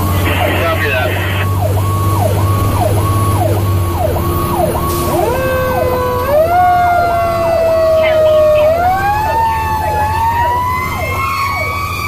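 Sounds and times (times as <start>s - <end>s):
engine drone: 0.0s - 12.0s
electronic siren cycling: 0.2s - 12.0s
steady siren tone: 0.2s - 12.0s.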